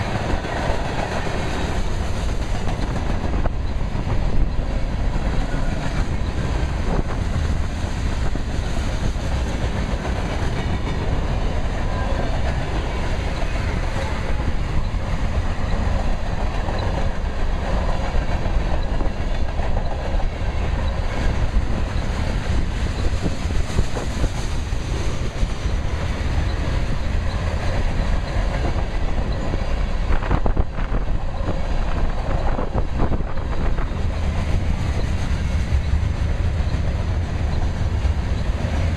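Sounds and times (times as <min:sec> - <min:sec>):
train wheels clicking over rail joints: 0:00.0 - 0:38.9
wind buffeting microphone: 0:00.0 - 0:38.9.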